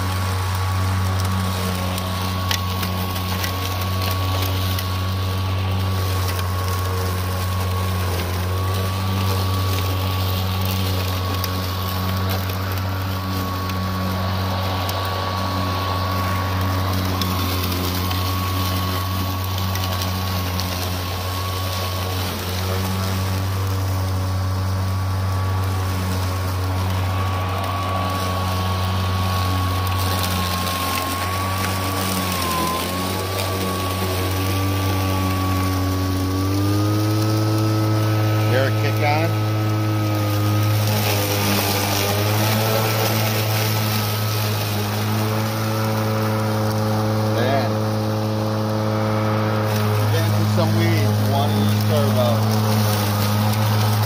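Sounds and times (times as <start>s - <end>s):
electric motor whine: 0.0s - 54.0s
lawn mower blade hum: 0.0s - 54.0s.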